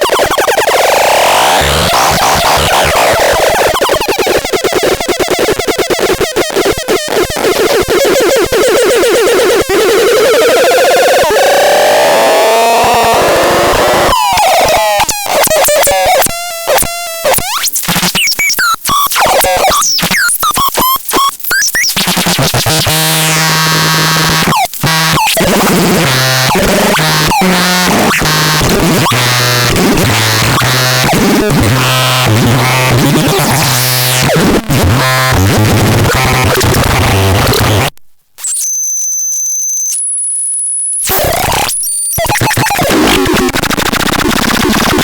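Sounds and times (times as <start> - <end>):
harsh synthesizer noise: 0.0 - 38.7, 41.0 - 45.0.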